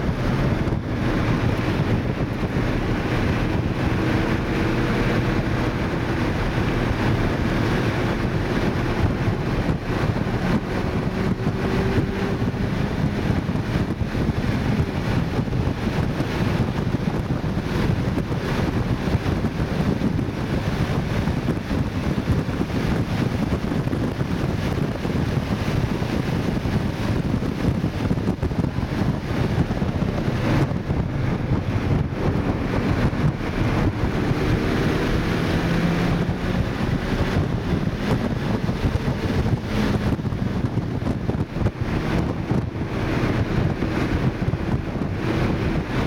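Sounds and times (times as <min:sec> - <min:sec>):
car engine under load: 0:00.0 - 0:46.0
wind and road noise: 0:00.0 - 0:46.0.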